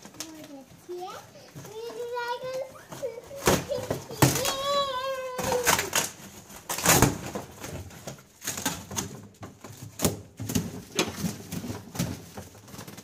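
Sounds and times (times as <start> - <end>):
cardboard and plastic packaging rustling: 0.0 - 13.0.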